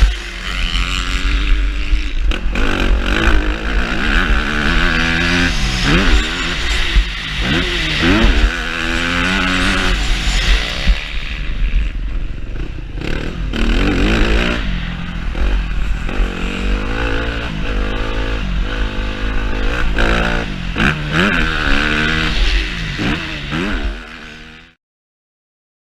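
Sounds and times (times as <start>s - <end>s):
motocross bike engine revving: 0.0s - 24.8s.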